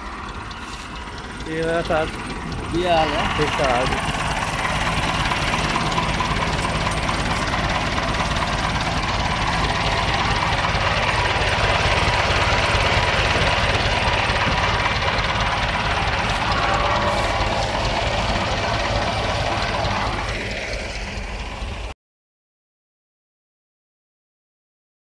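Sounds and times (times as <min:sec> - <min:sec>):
diesel tractor engine pulsing: 0:00.0 - 0:22.0.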